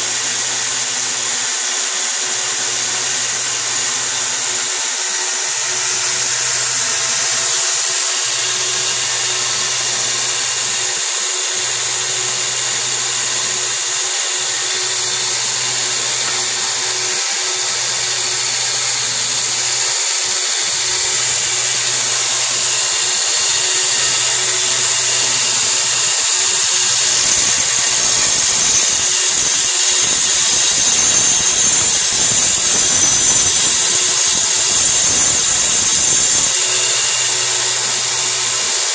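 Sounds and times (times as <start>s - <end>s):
belt grinder running: 0.0s - 38.9s
steel bar grinding on belt: 0.0s - 38.9s.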